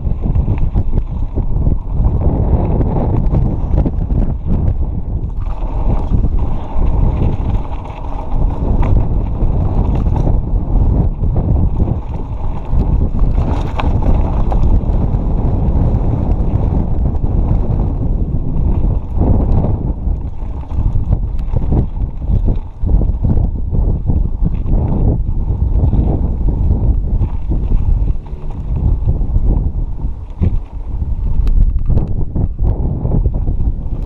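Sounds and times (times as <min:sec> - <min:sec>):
bike rattling: 0:00.0 - 0:34.0
tyres on dirt trail: 0:00.0 - 0:34.0
wind buffeting microphone: 0:00.0 - 0:34.0.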